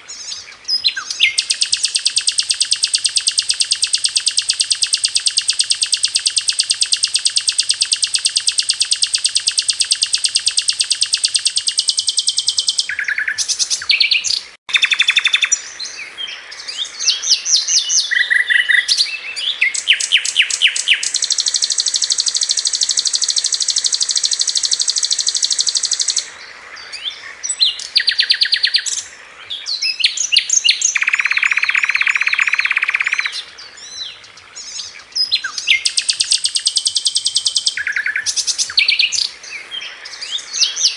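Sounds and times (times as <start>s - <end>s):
flycatcher singing fast trills: 0.1s - 26.3s, 26.9s - 29.1s, 29.7s - 34.0s, 34.6s - 40.9s.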